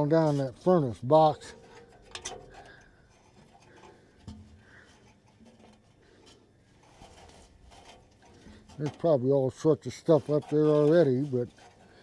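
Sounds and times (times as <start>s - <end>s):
faint scraping and handling: 0.0s - 12.0s.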